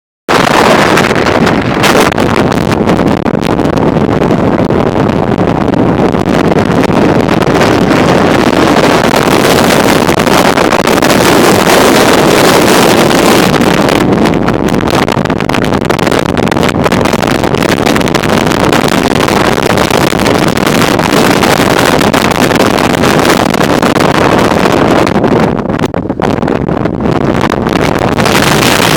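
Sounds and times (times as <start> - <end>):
wind buffeting microphone: 0.3 - 28.9.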